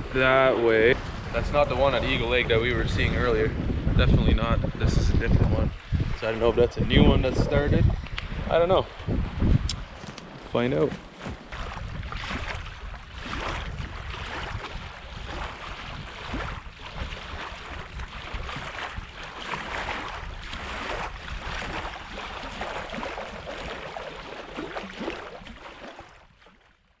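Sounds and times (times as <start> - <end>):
gusty wind on microphone: 0.0 - 23.6.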